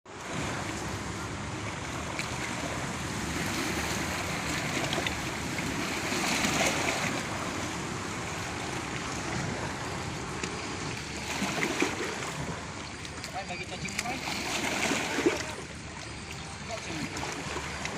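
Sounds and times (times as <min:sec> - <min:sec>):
lake waves breaking: 0:00.1 - 0:17.9.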